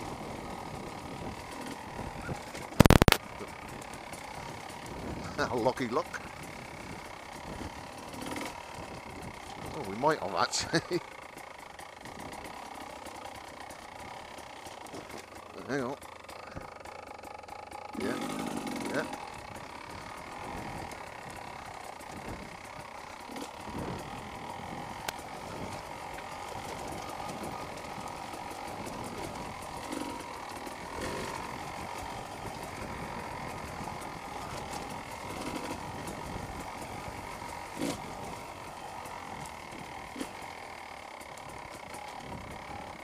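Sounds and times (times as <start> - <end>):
two-stroke motorcycle engine running: 0.0 - 43.0.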